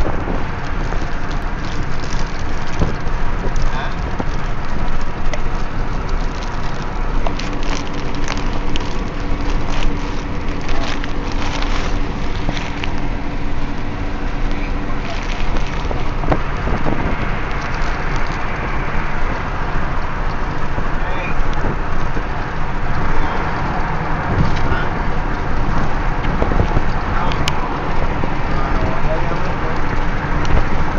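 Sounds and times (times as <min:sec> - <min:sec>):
car road rumble: 0:00.0 - 0:30.9
crackling and rustling: 0:00.0 - 0:30.9.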